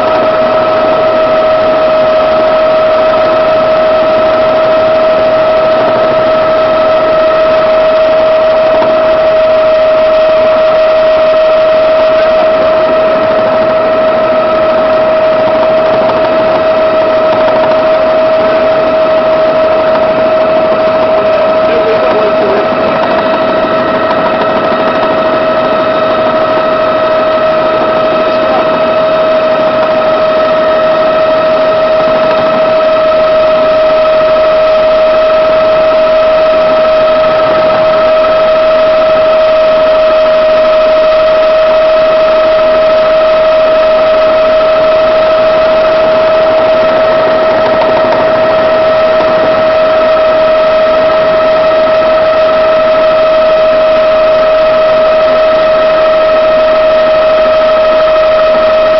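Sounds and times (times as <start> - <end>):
helicopter engine and rotor drone: 0.0 - 58.9
high whine: 0.0 - 58.9.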